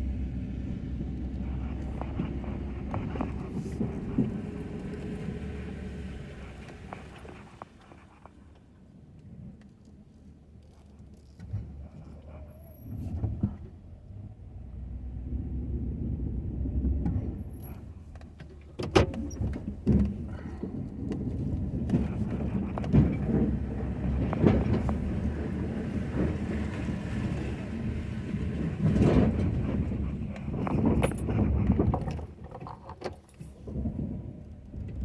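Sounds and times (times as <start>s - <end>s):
pickup engine rumbling: 0.0s - 8.6s, 11.6s - 35.0s.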